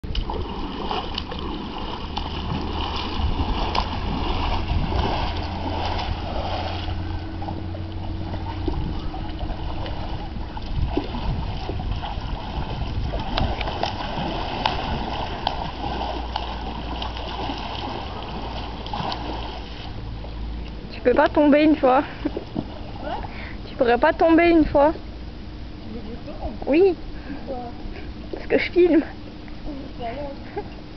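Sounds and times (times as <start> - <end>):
pool water splashing: 0.0 - 25.0
steady low rumble: 0.0 - 30.9.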